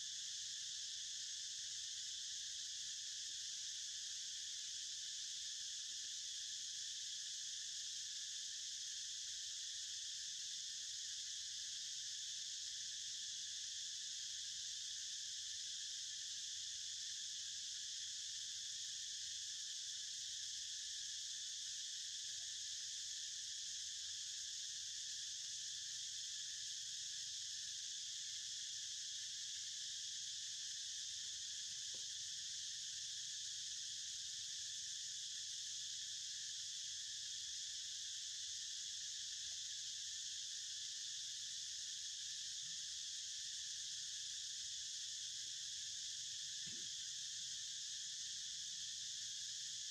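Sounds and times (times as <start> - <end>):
insect chorus drone: 0.0 - 49.9.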